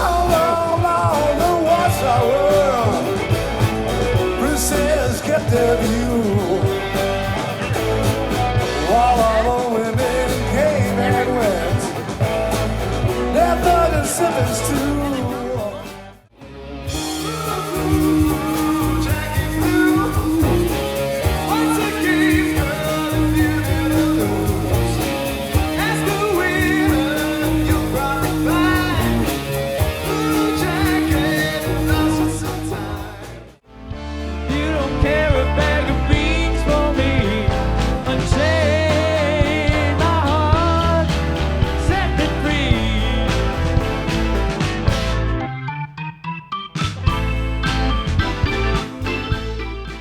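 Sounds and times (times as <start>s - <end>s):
rock band playing live: 0.0s - 50.0s.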